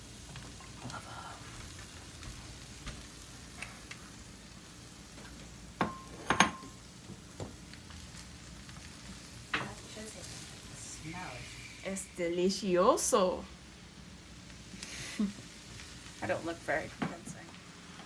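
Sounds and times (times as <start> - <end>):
vegetables frying in a pan: 0.0 - 18.0.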